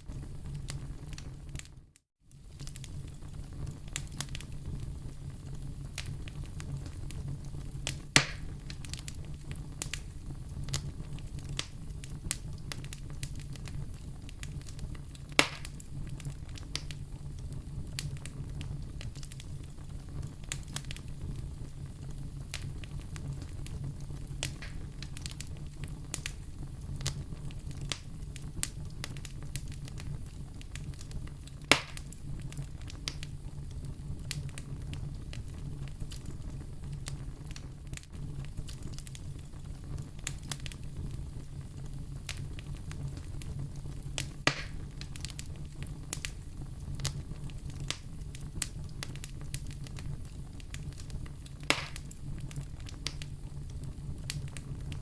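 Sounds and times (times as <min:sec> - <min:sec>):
wood fire crackling: 0:00.0 - 0:55.0
fire popping sharply: 0:02.4 - 0:55.0.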